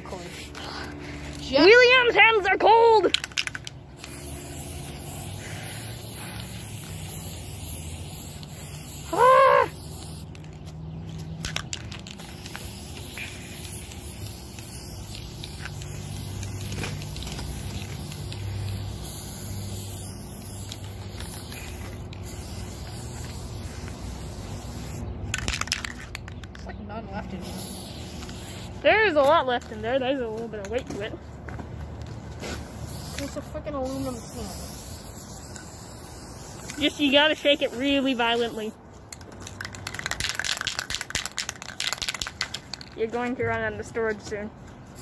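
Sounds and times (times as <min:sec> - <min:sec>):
spray paint can hissing: 0:01.2 - 0:26.6, 0:27.4 - 0:31.0, 0:32.4 - 0:44.2.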